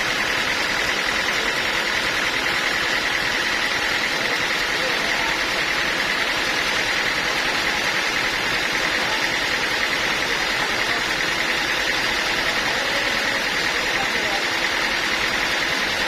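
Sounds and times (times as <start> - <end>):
sawmill machinery droning: 0.0 - 16.0.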